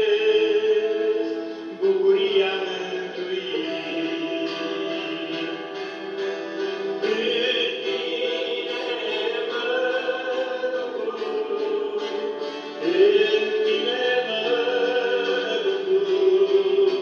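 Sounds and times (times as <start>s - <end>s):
choir singing slow religious song: 0.0s - 17.0s.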